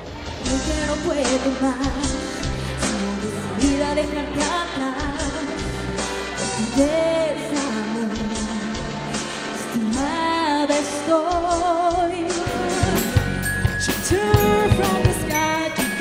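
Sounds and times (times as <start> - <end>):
backing music: 0.0 - 16.0
woman singing into microphone: 0.4 - 16.0.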